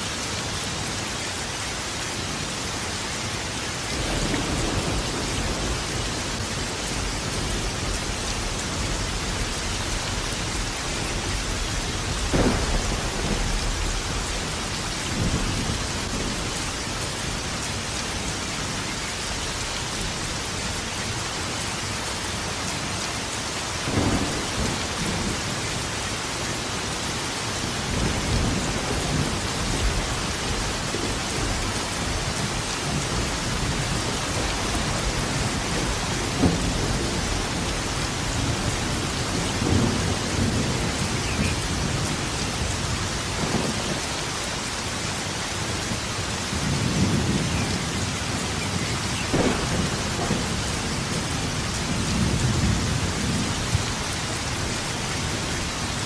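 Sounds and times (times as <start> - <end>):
heavy rain: 0.0 - 56.0
thunderclaps and rumbling: 3.7 - 21.3, 23.7 - 56.0.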